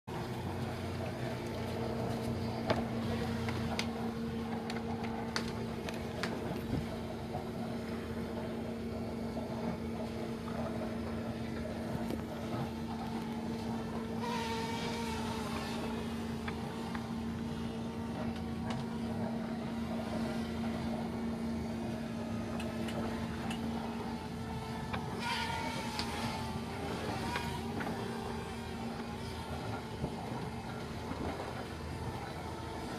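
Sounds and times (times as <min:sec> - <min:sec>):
steady motor hum: 0:00.1 - 0:32.9.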